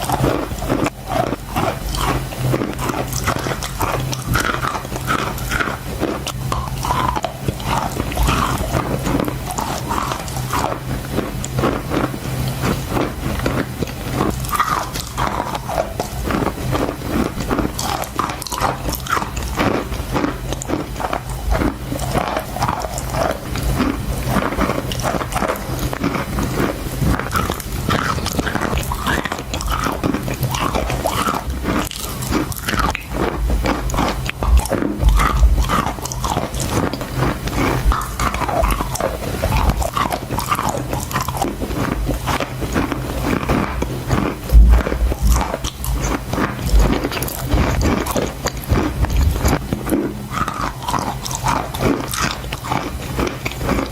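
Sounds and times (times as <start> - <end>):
chalk crunching while chewed: 0.0 - 53.9
steady low hum: 0.0 - 53.9.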